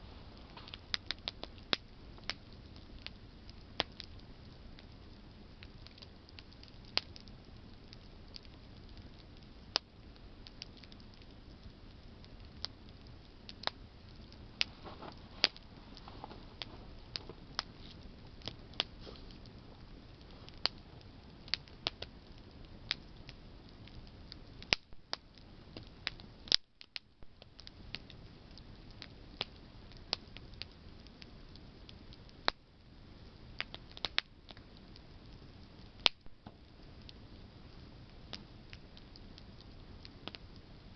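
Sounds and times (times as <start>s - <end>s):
campfire crackling and popping: 0.0s - 40.9s
low hiss of flames: 0.0s - 40.9s.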